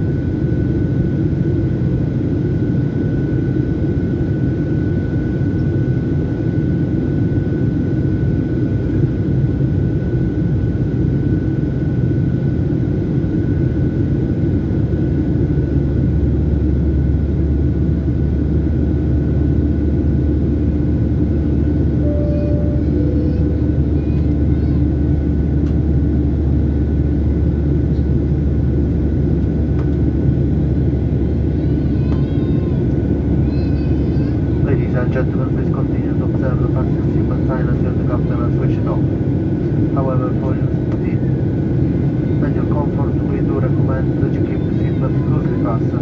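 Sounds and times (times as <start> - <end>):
jet engine cabin rumble: 0.0 - 46.0.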